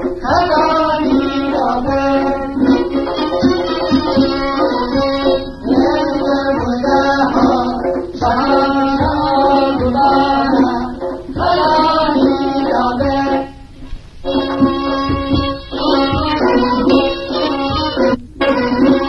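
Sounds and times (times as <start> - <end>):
folk instrumental melody: 0.0 - 19.0
regular drum beat: 0.0 - 19.0.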